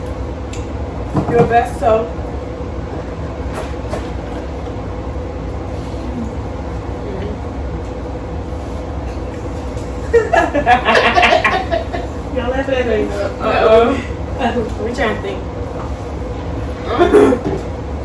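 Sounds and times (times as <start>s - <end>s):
thin constant hum: 0.0s - 18.0s.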